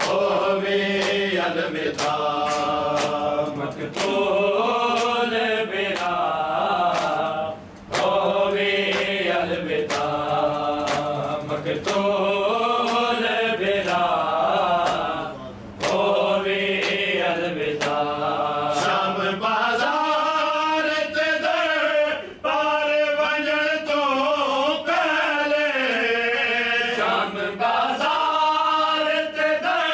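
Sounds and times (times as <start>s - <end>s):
men chanting a lament: 0.0s - 29.9s.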